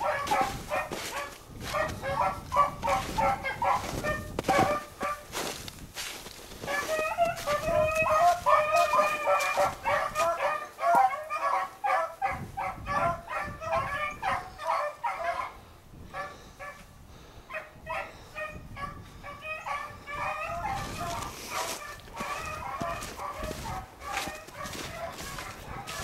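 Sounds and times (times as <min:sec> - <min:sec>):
beagles baying: 0:00.0 - 0:05.6, 0:06.6 - 0:26.0.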